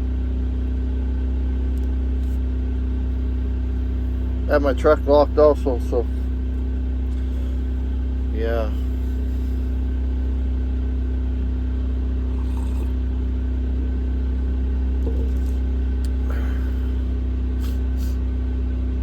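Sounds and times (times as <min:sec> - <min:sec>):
generator engine droning: 0:00.0 - 0:19.0.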